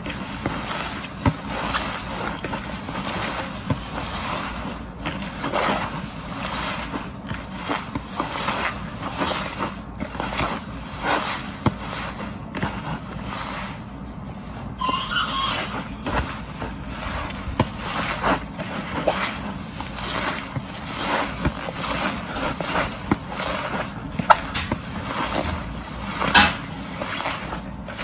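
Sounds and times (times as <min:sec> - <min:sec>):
hands rubbing wet leaves in plastic basin: 0:00.0 - 0:28.0.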